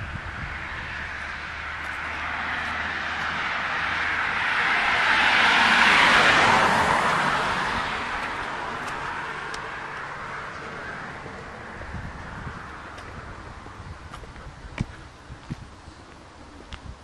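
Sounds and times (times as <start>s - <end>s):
car tyre and road noise: 0.0s - 17.0s.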